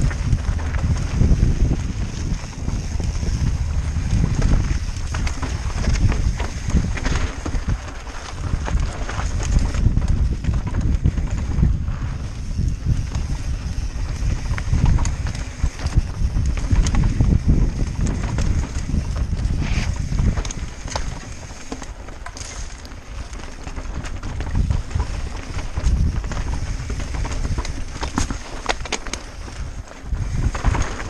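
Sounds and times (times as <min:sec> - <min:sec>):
bike tyres clattering on rock: 0:00.0 - 0:31.0
wind rumble on microphone: 0:00.0 - 0:31.0.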